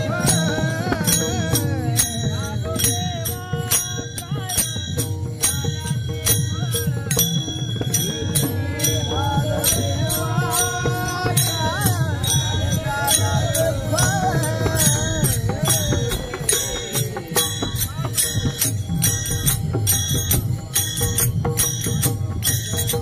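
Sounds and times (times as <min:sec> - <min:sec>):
drum: 0:00.0 - 0:23.0
small hand cymbals: 0:00.0 - 0:23.0.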